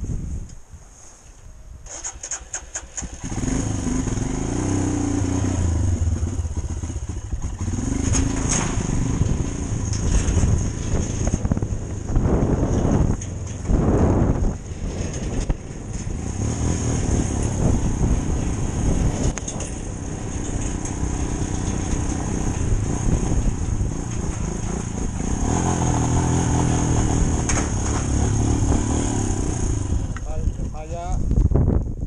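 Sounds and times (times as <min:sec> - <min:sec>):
motorcycle engine running: 0:03.1 - 0:31.4.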